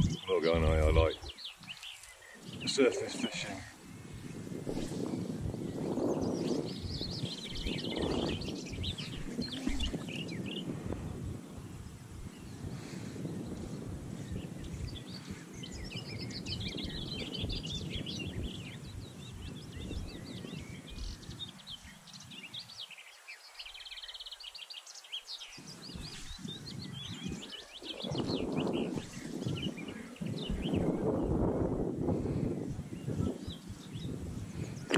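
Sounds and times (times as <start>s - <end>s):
birds chirping and singing: 0.0s - 11.4s, 12.2s - 34.9s
wind rumble on microphone: 0.0s - 24.5s, 25.4s - 34.9s.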